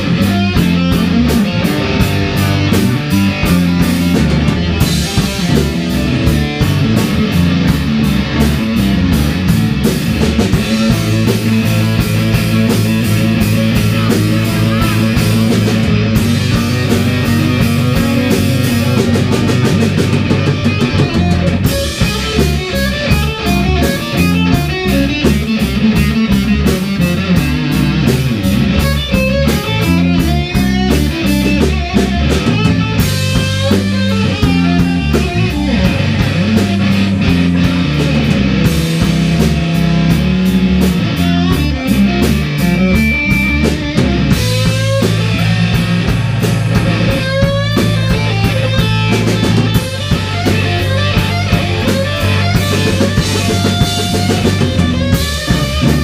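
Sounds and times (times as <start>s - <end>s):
live rock band playing: 0.0s - 56.0s
steady drum beat: 0.0s - 56.0s.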